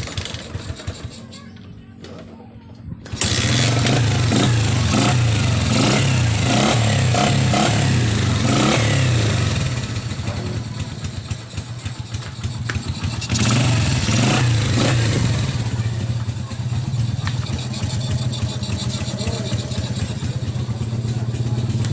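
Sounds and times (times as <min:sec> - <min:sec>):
motorcycle engine revving: 0:00.0 - 0:02.3, 0:03.0 - 0:21.9.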